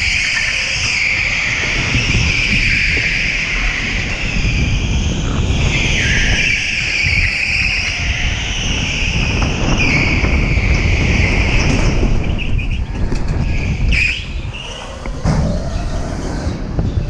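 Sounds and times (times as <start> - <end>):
electric go-kart motor whining: 0.0 - 17.0.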